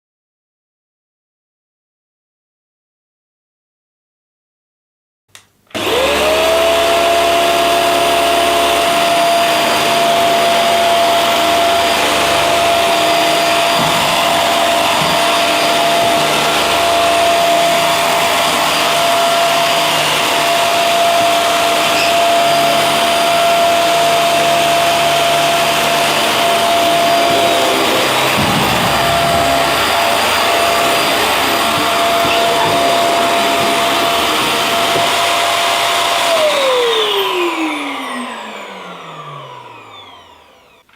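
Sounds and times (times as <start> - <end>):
vacuum cleaner running: 5.7 - 40.9.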